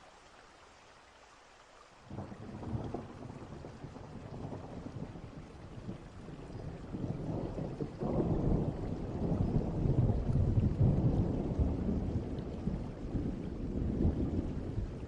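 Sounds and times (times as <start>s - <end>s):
rain: 0.0s - 15.0s
distant thunder rolling: 2.1s - 15.0s.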